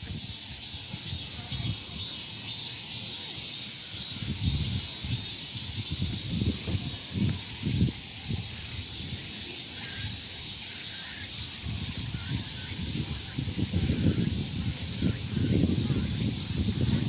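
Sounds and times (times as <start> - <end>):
wind rumbling on microphone: 0.0 - 2.1, 4.1 - 10.6, 11.2 - 17.0
insects buzzing: 0.0 - 17.0.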